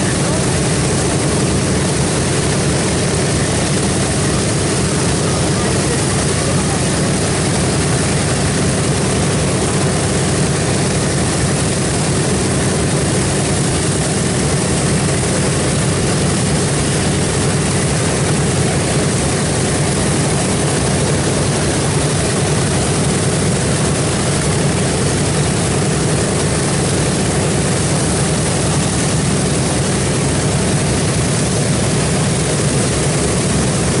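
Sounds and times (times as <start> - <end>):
propeller aircraft engines droning: 0.0 - 34.0.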